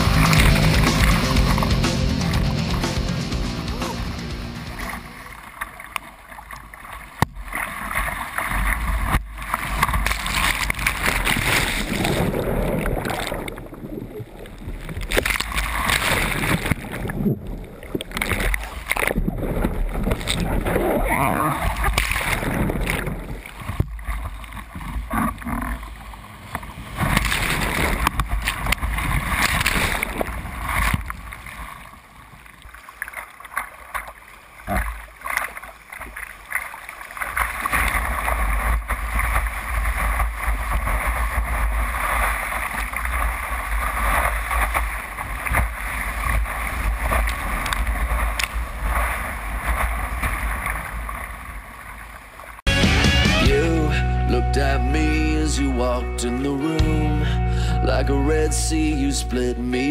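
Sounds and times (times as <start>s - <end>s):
surf and whitewater splashing: 0.0s - 59.9s.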